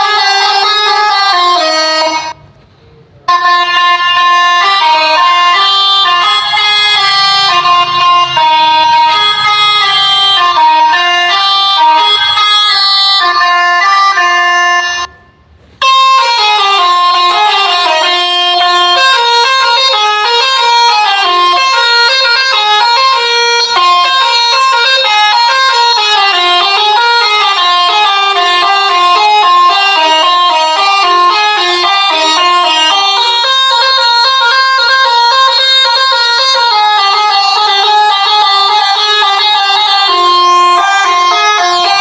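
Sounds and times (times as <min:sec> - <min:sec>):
multi-tone bus horn melody: 0:00.0 - 0:42.0.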